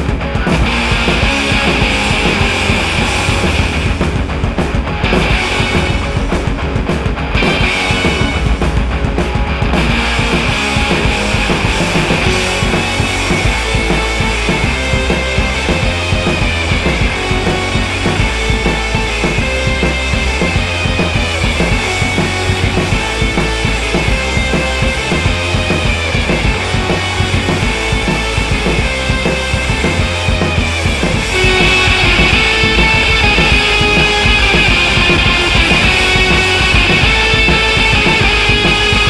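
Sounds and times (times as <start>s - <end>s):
rock music with drums: 0.0s - 39.0s.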